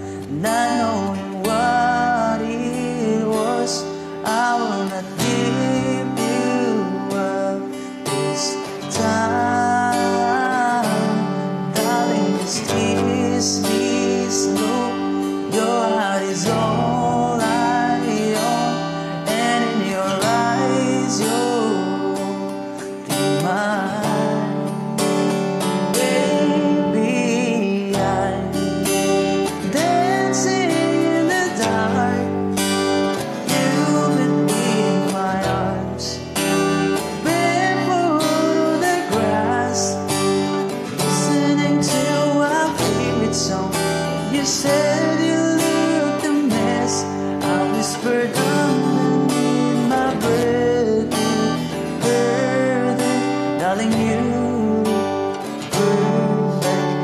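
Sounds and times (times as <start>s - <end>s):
guitar strummed in chords: 0.0s - 57.0s
man singing: 0.0s - 57.0s.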